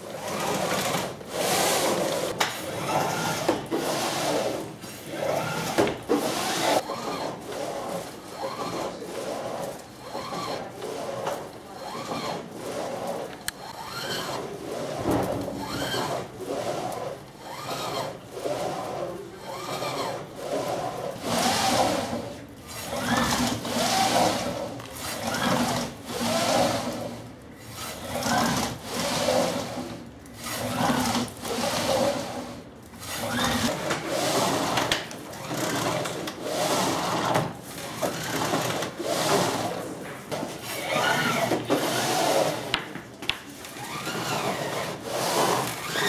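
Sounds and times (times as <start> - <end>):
mechanical whirring: 0.1 - 39.7.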